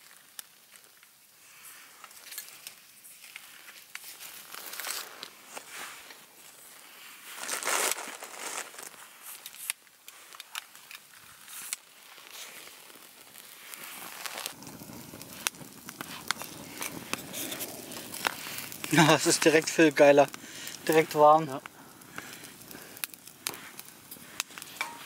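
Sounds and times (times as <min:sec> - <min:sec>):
fire crackling and popping: 0:00.0 - 0:25.0
rush of flame: 0:00.0 - 0:25.0
tinder rustling and crinkling: 0:00.0 - 0:25.0.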